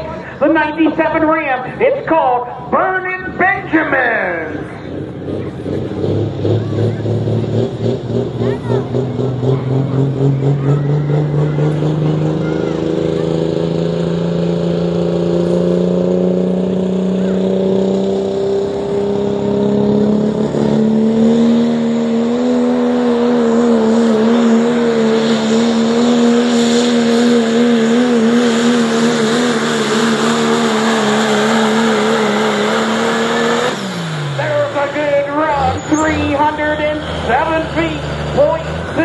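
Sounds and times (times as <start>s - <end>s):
truck engine at full throttle: 0.0s - 39.0s.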